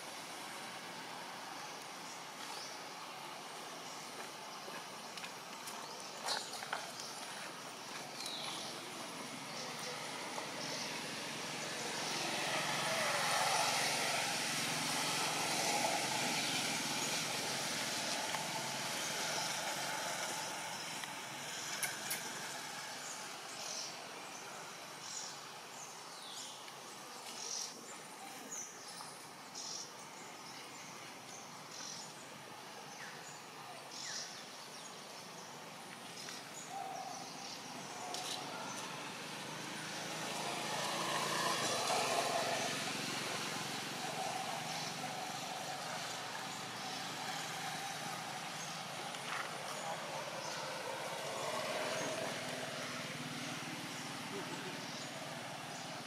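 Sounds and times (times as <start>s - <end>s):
outdoor ambience noise: 0.0s - 56.0s.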